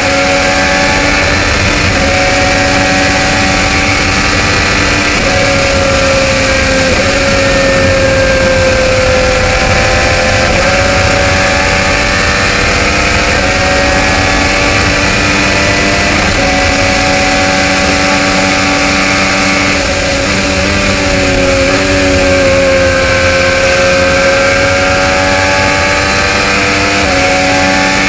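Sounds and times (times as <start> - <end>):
race car engine at high revs: 0.0 - 28.0
wind and tyre noise: 0.0 - 28.0.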